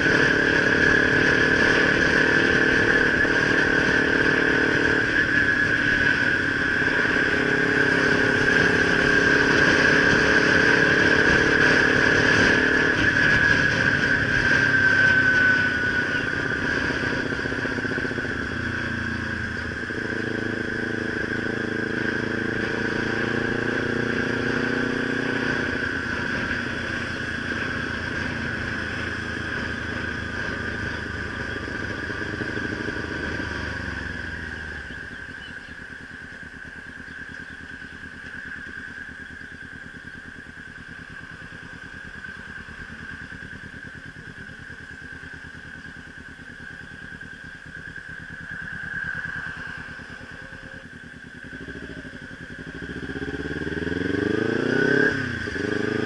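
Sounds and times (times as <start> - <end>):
motorcycle engine running: 0.0 - 56.0
steady high whine: 0.0 - 56.0.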